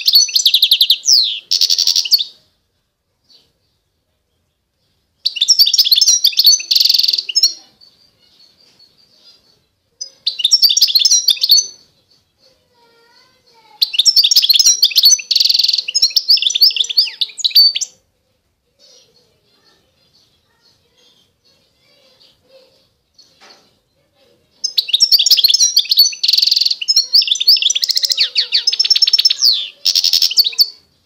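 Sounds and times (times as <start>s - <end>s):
finch singing: 0.0s - 2.4s, 4.8s - 18.0s, 18.8s - 30.9s.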